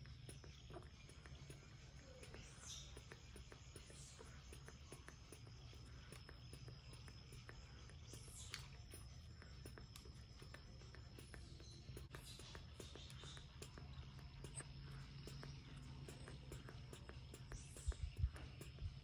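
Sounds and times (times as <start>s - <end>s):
baby monkey sucking clicks: 0.0s - 19.0s.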